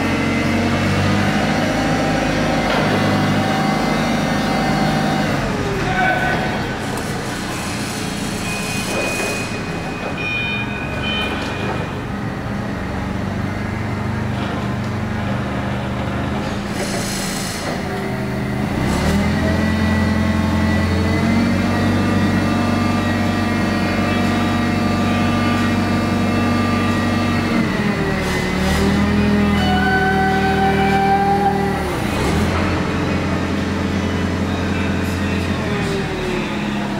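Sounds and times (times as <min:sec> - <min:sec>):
forklift engine running: 0:00.0 - 0:36.9.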